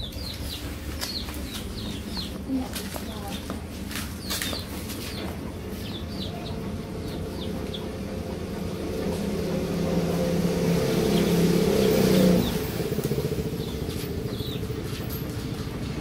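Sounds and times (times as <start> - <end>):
motor vehicle engine running: 0.0 - 16.0.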